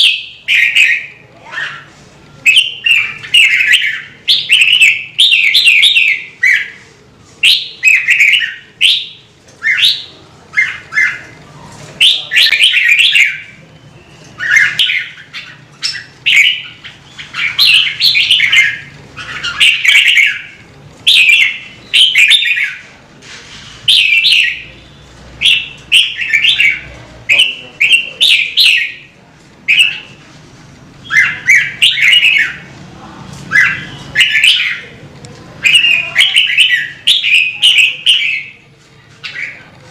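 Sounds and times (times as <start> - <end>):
bird singing warbled phrases: 0.0 - 23.0, 23.8 - 30.2, 31.0 - 32.8, 33.5 - 35.0, 35.6 - 39.8.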